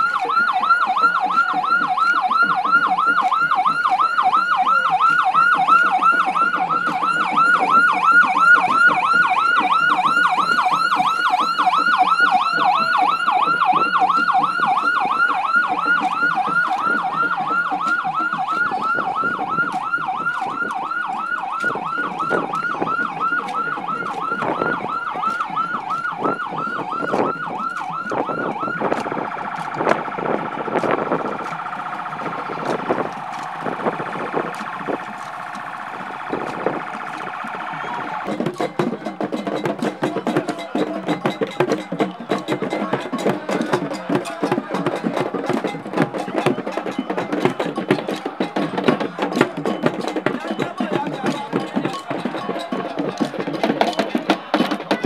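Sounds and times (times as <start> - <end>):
vehicle siren yelping: 0.0 - 55.0.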